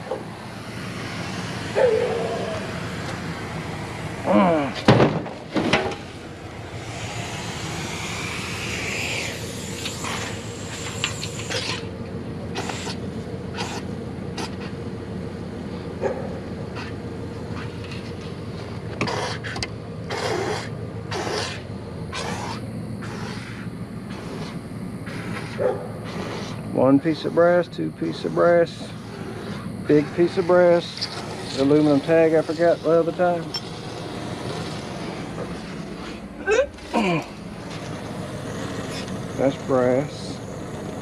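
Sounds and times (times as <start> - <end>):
hiss: 0.0 - 4.9, 5.8 - 14.8, 19.0 - 41.0
low hum: 0.0 - 19.0, 19.6 - 41.0.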